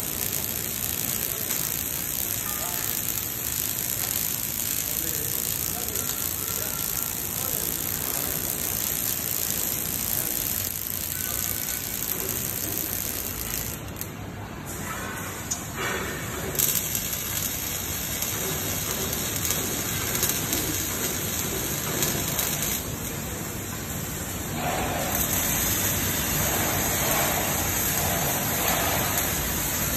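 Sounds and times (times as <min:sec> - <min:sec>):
welding arc crackling hiss: 0:00.0 - 0:29.9.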